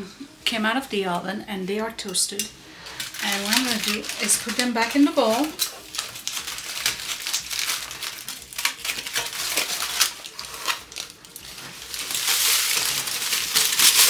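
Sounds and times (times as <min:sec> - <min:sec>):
shredded wheat crackling: 0:01.6 - 0:14.0.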